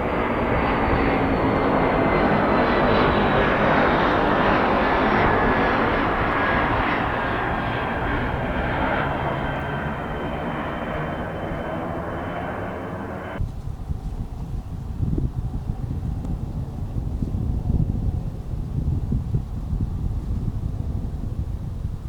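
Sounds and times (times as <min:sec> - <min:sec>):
airplane droning overhead: 0:00.0 - 0:22.0
wind on microphone: 0:00.0 - 0:22.0.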